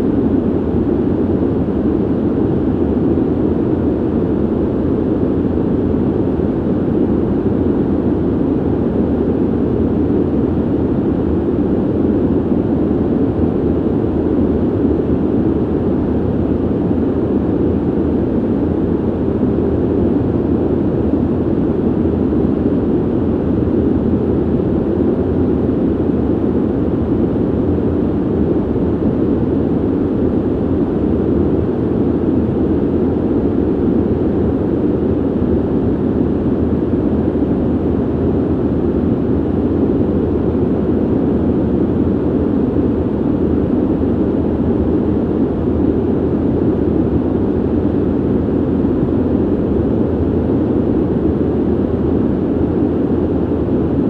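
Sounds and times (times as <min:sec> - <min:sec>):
ventilation air rush: 0:00.0 - 0:54.0.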